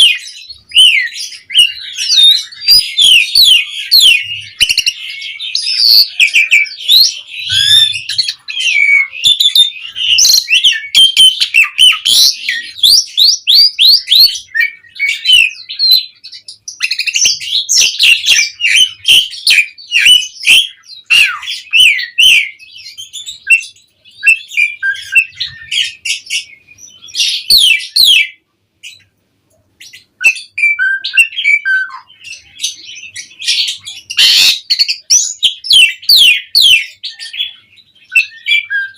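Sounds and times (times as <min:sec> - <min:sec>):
starling singing: 0:00.0 - 0:29.1, 0:29.8 - 0:38.9.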